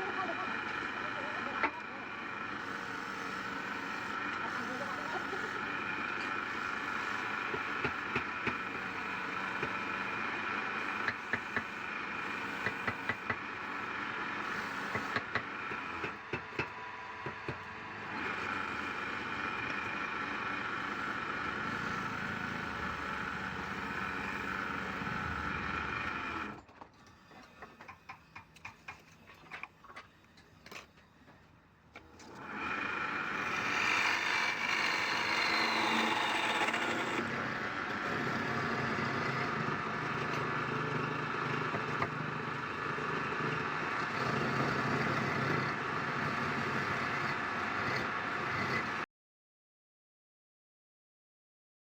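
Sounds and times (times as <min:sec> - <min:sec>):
lathe running with whining hum: 0:00.0 - 0:26.6, 0:31.0 - 0:49.0.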